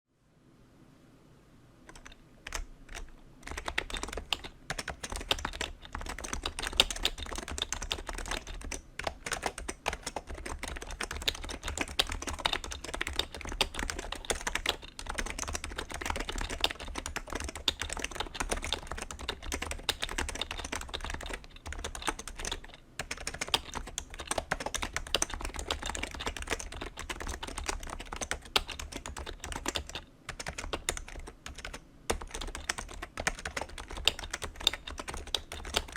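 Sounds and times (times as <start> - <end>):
fast keyboard typing: 1.9 - 35.9.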